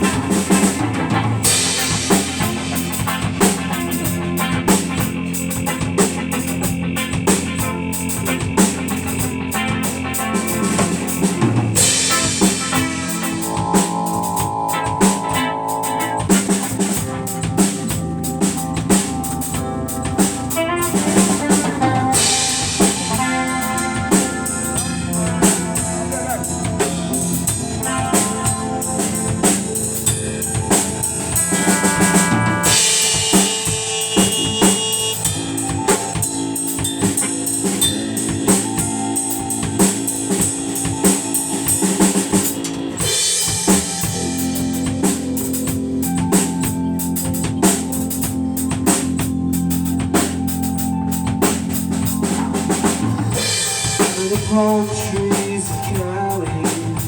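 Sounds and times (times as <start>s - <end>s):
instrumental hip-hop beat: 0.0s - 57.0s.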